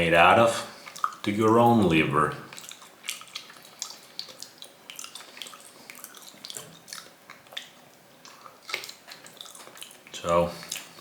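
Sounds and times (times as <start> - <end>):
person chewing food: 0.7 - 1.3, 2.5 - 11.0.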